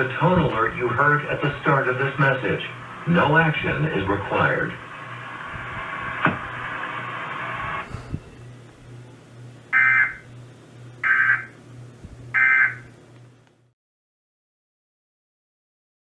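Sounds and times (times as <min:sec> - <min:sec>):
steady radio hiss: 0:00.0 - 0:12.9
low hum: 0:00.0 - 0:13.7.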